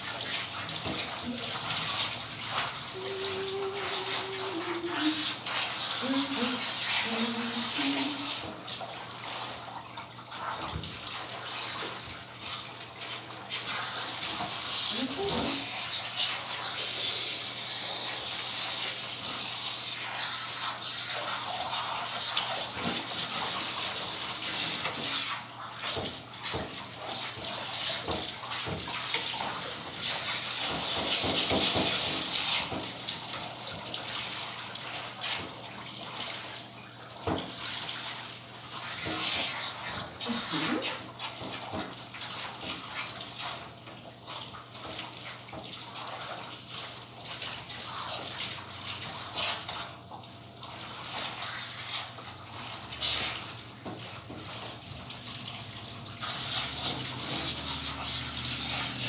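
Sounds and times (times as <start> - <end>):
water spraying: 0.0 - 36.5, 37.2 - 43.6, 50.6 - 59.0.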